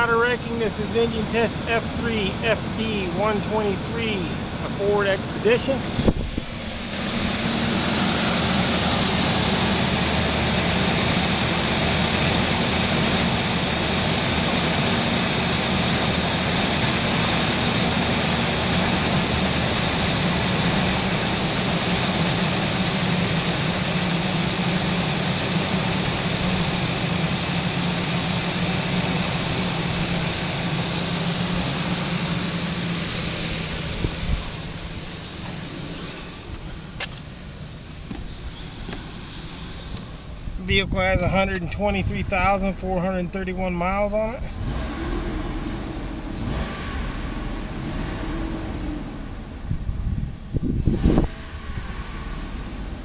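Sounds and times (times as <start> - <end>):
high-pitched whine: 0.0 - 49.7
car engine idling: 0.0 - 53.0.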